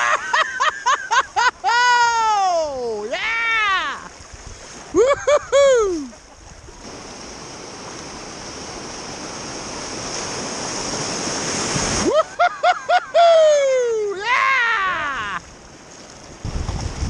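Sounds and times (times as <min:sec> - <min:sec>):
whitewater rushing: 0:00.0 - 0:17.0.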